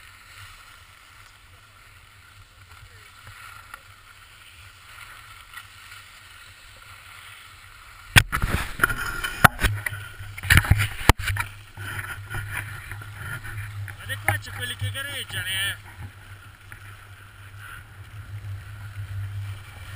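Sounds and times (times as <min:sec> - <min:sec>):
faint steady hiss: 0:00.0 - 0:19.9.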